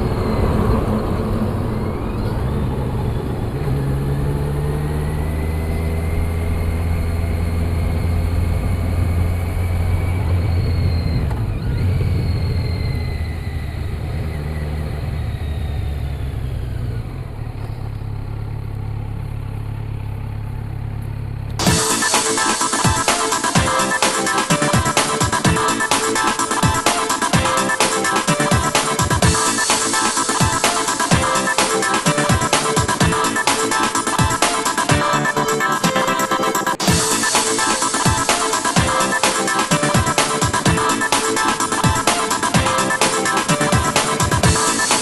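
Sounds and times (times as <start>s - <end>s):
motorcycle engine running: 0.0s - 35.4s, 36.7s - 45.0s.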